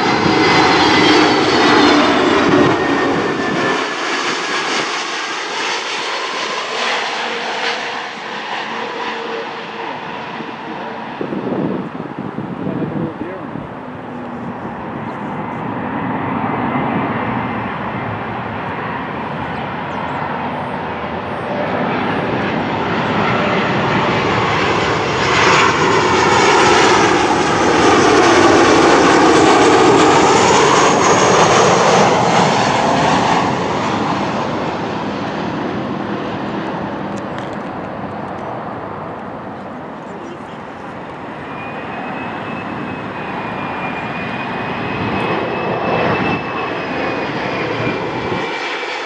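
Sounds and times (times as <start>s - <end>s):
jet airliner flying overhead: 0.0s - 49.0s
jet engine whine dropping in pitch: 0.0s - 49.0s.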